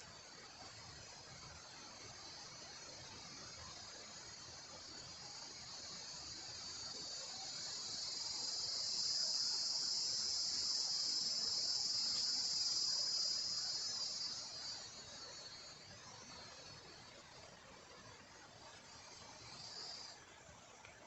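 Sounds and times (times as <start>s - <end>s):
high shrill insect drone: 1.1s - 17.0s, 18.6s - 20.2s.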